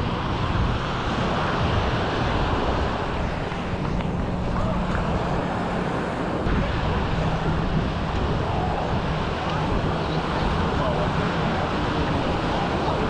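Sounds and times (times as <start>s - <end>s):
steady low hum: 0.0s - 13.0s
surf: 0.0s - 13.0s
wind on microphone: 0.0s - 13.0s.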